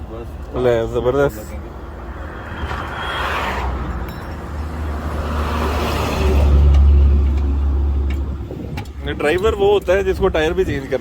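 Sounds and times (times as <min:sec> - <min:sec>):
heavy vehicle rumble: 0:00.0 - 0:11.0
motorway traffic rushing past: 0:00.0 - 0:11.0.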